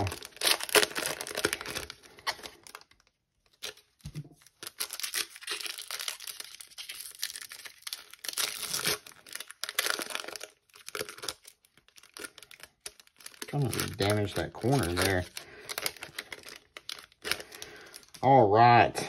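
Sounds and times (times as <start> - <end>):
foil wrapper tearing and crinkling: 0.0 - 18.2.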